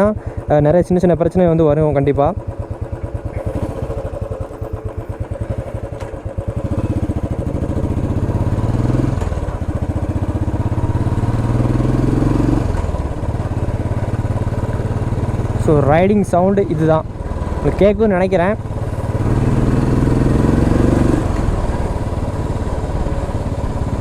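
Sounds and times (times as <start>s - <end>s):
single-cylinder motorcycle engine revving: 0.0s - 24.0s.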